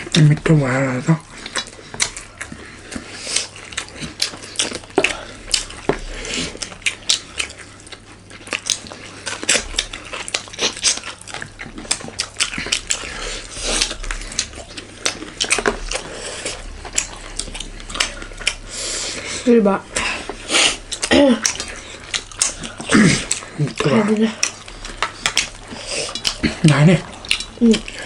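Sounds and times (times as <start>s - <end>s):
wet chewing: 0.0s - 28.0s.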